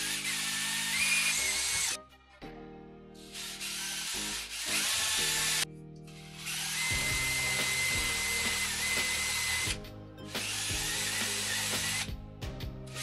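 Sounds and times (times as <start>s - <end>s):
power drill boring through board: 0.0s - 2.0s, 3.2s - 12.1s.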